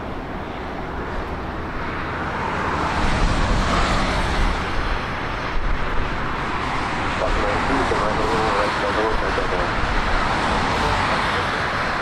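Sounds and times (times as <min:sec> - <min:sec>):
passing vehicle rumble: 0:00.0 - 0:12.0.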